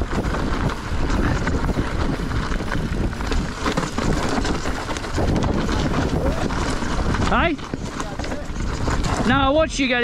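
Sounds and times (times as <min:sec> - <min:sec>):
bike rolling over dirt: 0:00.0 - 0:10.0
wind buffeting microphone: 0:00.0 - 0:10.0.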